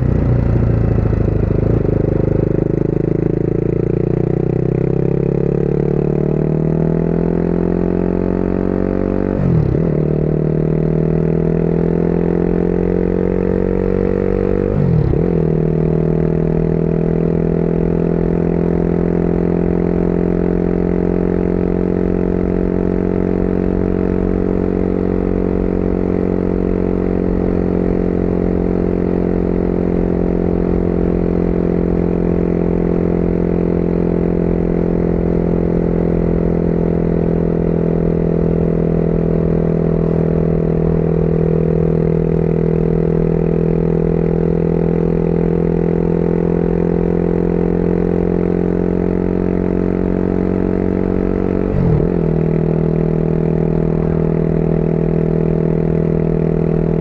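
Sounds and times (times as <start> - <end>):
wind and road rumble: 0.0 - 5.8, 6.7 - 57.0
motorcycle engine running: 0.0 - 57.0.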